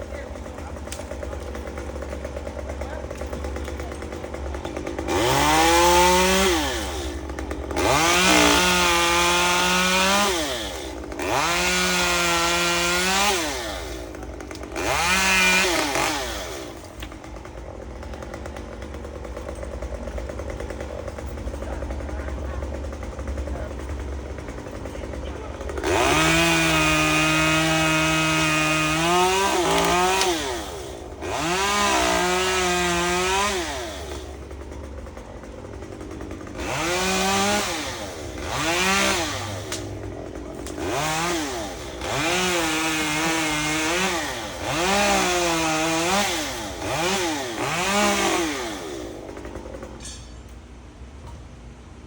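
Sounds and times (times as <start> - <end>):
chainsaw engine revving: 0.0 - 50.0.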